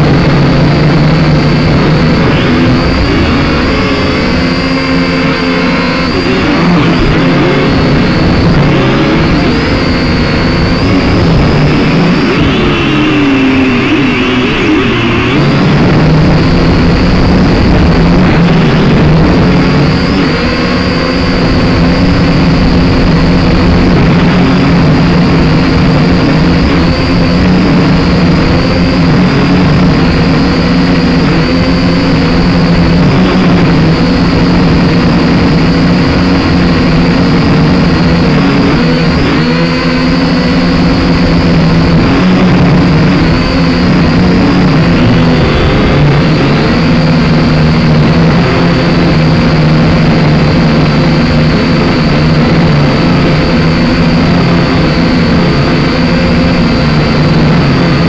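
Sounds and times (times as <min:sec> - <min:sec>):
drone propellers whining: 0:00.0 - 0:58.0
wind rumbling on microphone: 0:00.0 - 0:58.0.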